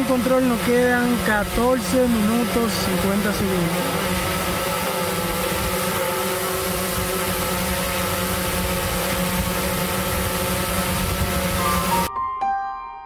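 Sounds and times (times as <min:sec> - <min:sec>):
drone propellers humming: 0:00.0 - 0:12.1.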